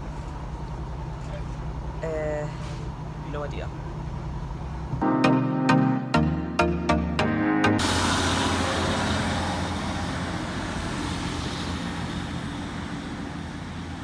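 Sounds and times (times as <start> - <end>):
train rumbling and hissing: 0.0 - 5.0, 7.8 - 14.0.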